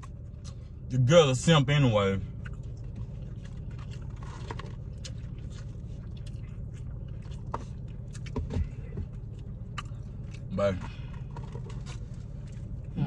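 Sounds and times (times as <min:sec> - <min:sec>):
people chewing and biting: 0:00.0 - 0:00.9, 0:02.2 - 0:13.0
low hum inside car: 0:00.0 - 0:13.0.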